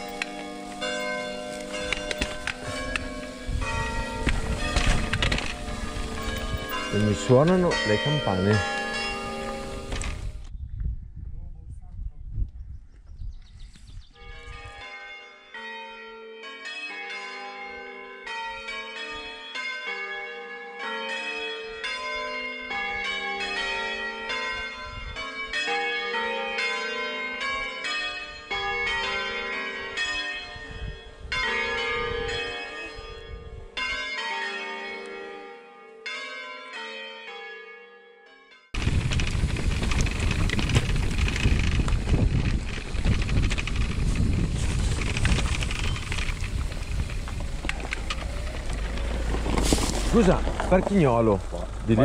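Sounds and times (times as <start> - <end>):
church bells ringing a peal: 0.0 - 10.4, 14.1 - 40.0, 45.8 - 52.0.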